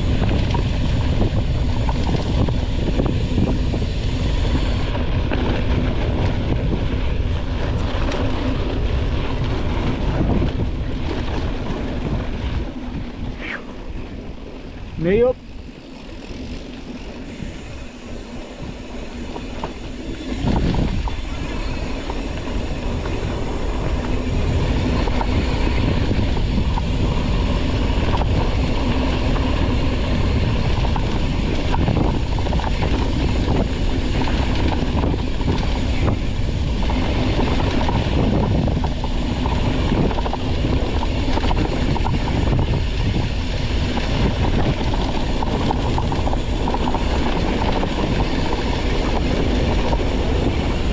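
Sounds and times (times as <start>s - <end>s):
bike rattling and knocking: 0.0s - 50.9s
wind buffeting microphone: 0.0s - 50.9s.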